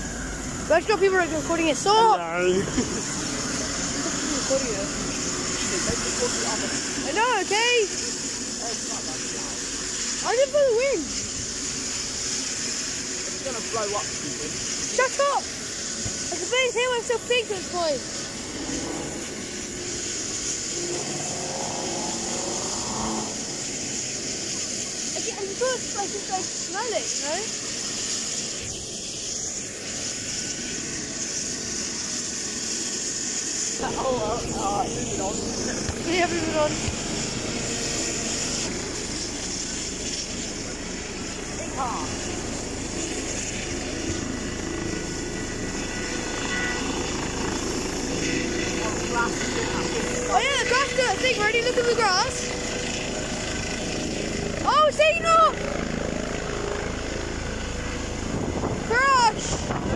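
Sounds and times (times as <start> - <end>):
helicopter rotors turning: 0.0 - 59.9
turbine whine: 0.0 - 59.9.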